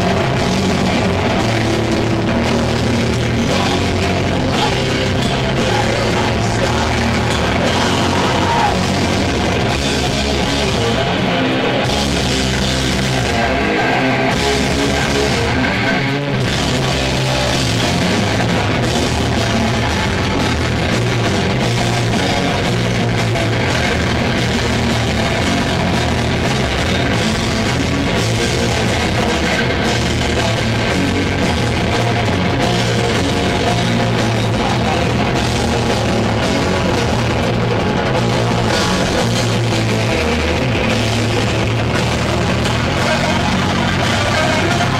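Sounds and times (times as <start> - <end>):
bass guitar: 0.0 - 44.9
distorted electric guitar riffing: 0.0 - 44.9
pounding drum kit: 0.0 - 44.9.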